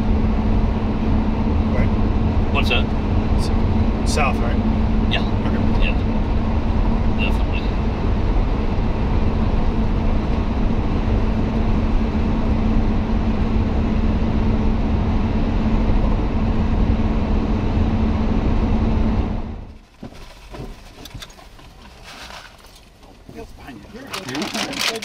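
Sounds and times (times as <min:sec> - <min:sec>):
road and tyre noise: 0:00.0 - 0:25.0.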